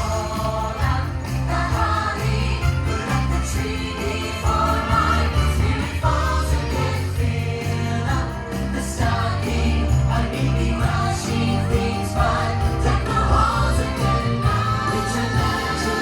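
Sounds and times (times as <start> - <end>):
choir singing over loudspeakers: 0.0 - 16.0
sleigh rattle over loudspeakers: 0.0 - 16.0.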